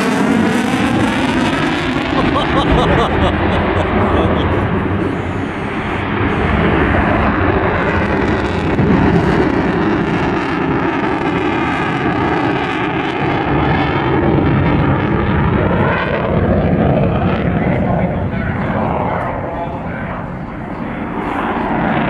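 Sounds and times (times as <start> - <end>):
fighter jet engine roar: 0.0 - 22.0.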